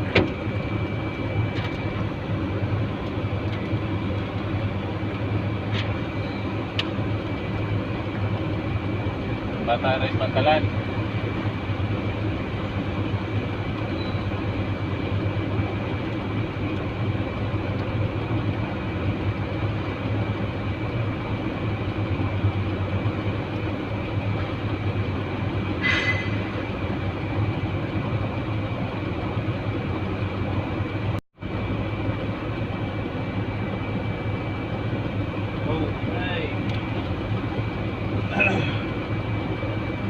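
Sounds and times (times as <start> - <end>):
truck engine droning: 0.0 - 40.0.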